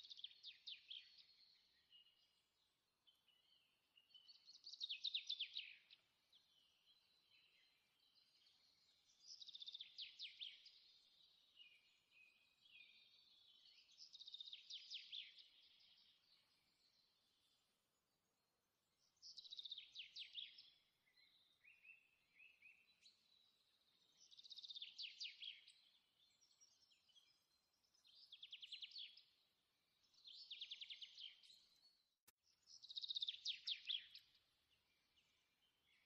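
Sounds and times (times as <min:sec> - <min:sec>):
faint songbird song: 0:00.0 - 0:36.0.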